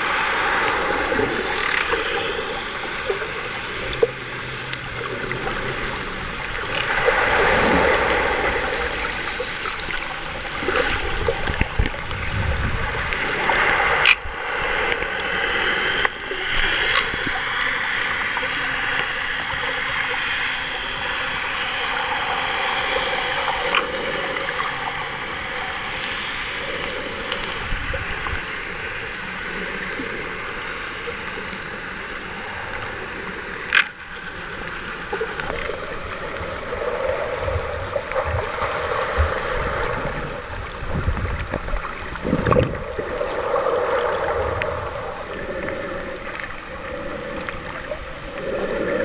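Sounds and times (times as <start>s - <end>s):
muffled underwater sloshing: 0.0s - 49.0s.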